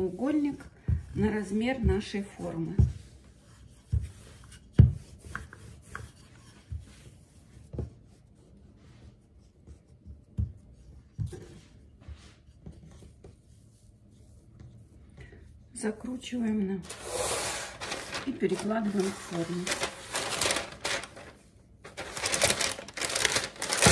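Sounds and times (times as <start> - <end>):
rolling pin rubbing dough: 0.0 - 23.9.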